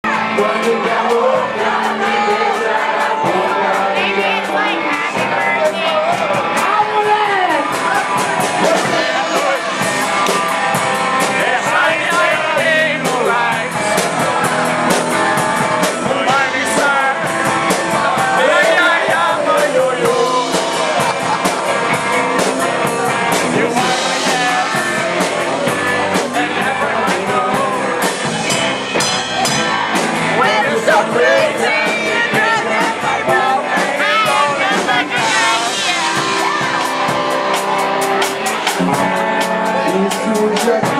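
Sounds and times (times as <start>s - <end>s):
person singing: 0.0s - 10.0s, 11.3s - 15.0s, 15.8s - 28.6s, 30.3s - 40.9s
live rock band: 0.0s - 40.9s.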